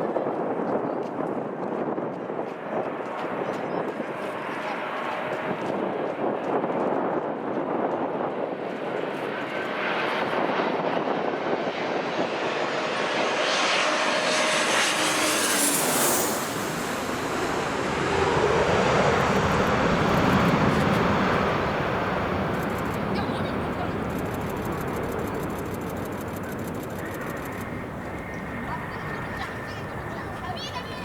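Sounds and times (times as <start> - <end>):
wind buffeting microphone: 0.0 - 31.0
jet airliner passing: 1.8 - 31.0.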